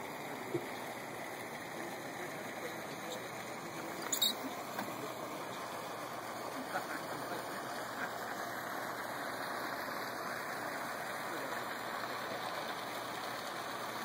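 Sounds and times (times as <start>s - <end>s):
churning water rushing: 0.0s - 14.0s.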